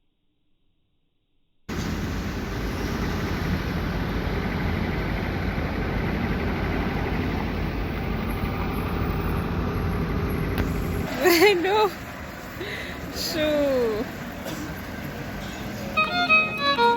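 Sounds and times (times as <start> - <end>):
road traffic rumble: 1.7 - 16.9.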